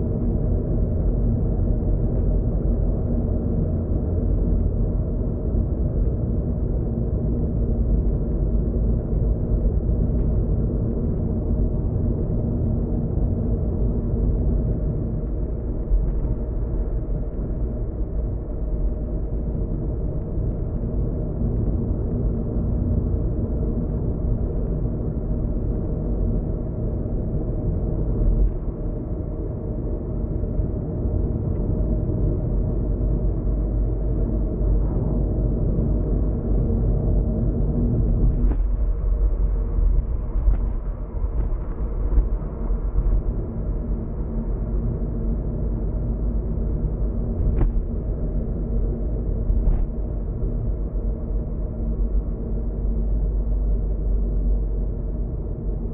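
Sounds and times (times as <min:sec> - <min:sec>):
faint steady hum: 0:00.0 - 0:55.9
car driving heard from inside: 0:00.2 - 0:55.9.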